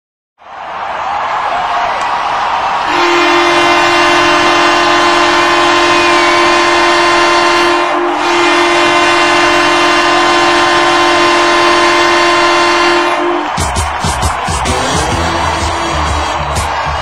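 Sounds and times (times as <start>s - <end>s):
goal horn: 2.9s - 16.9s.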